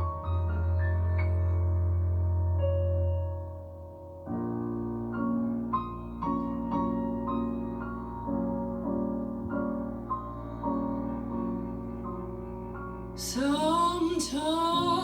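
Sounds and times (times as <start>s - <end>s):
slow jazz piano chords: 0.0s - 15.0s.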